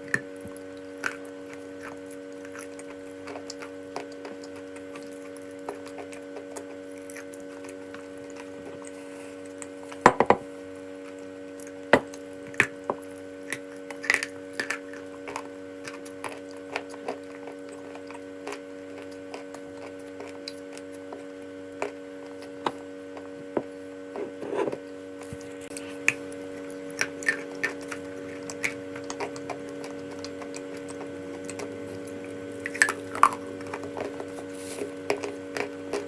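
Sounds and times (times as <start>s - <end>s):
steady electrical hum: 0.0s - 36.0s
chalk being chewed: 0.2s - 10.0s, 10.8s - 23.3s, 24.1s - 36.0s.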